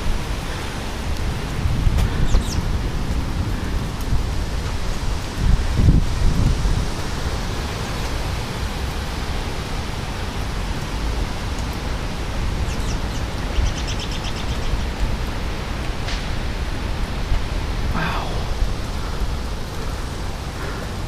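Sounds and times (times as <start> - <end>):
storm wind and rain rushing: 0.0 - 21.0.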